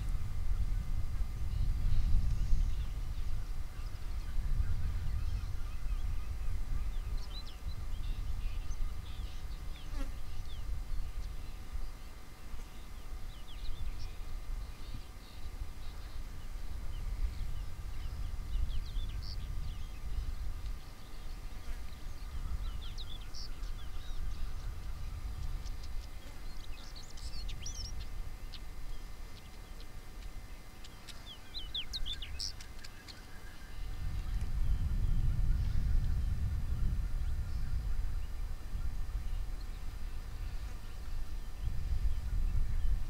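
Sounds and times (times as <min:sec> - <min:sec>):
steady low rumble: 0:00.0 - 0:43.0
birds chirping: 0:01.2 - 0:43.0.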